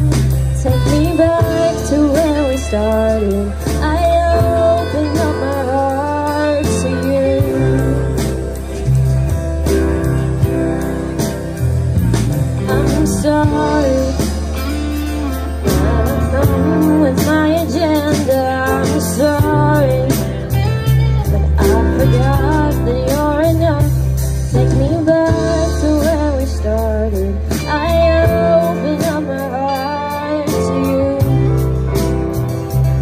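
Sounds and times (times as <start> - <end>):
woman singing: 0.0 - 8.6, 12.6 - 32.1
live band playing: 0.0 - 33.0.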